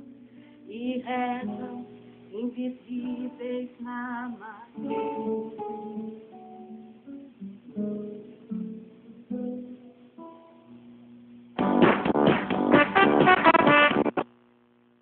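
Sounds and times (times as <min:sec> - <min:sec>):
acoustic guitar plucked melody: 0:00.0 - 0:14.2.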